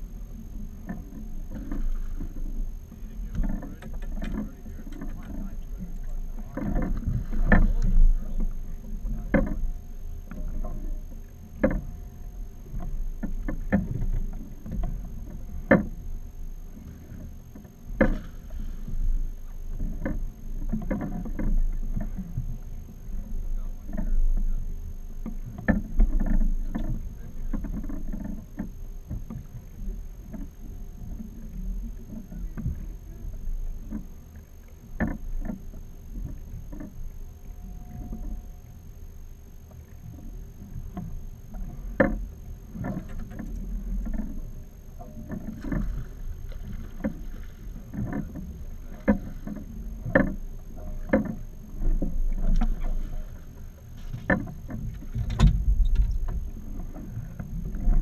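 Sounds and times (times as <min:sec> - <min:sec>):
knocks and thumps on boat: 0:00.0 - 0:38.6, 0:39.6 - 0:58.0
steady low rumble: 0:00.0 - 0:58.0
water slapping boat hull: 0:00.0 - 0:58.0.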